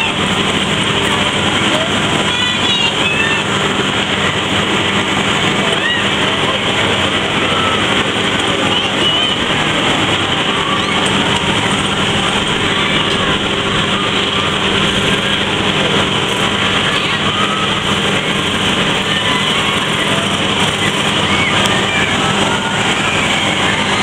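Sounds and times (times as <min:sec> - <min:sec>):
fairground ride machinery rumble: 0:00.0 - 0:24.0.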